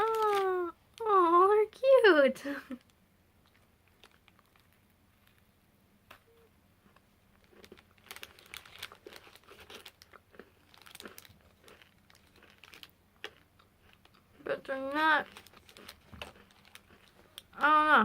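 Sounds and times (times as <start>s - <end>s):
snack packaging crinkling: 0.0s - 1.1s, 2.7s - 5.5s, 6.8s - 17.9s.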